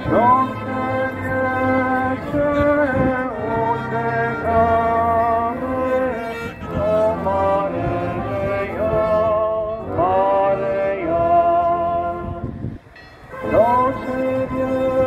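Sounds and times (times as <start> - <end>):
brass band playing slow tune: 0.0 - 12.5, 13.2 - 15.0.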